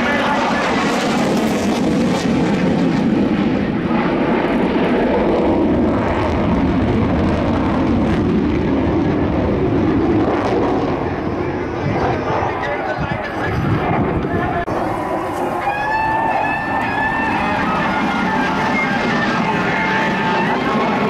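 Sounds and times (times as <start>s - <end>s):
jet engine roar with afterburner: 0.0s - 21.0s.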